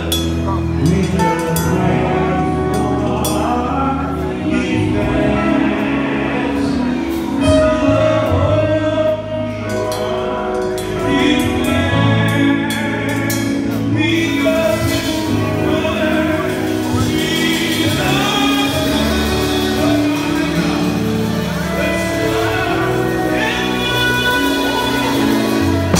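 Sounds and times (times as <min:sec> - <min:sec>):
gospel singing: 0:00.0 - 0:25.9.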